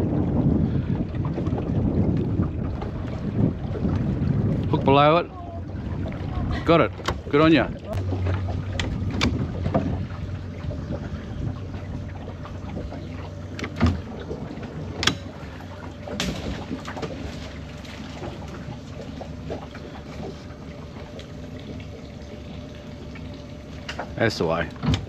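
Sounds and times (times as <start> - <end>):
water and boat noise: 0.0 - 25.0.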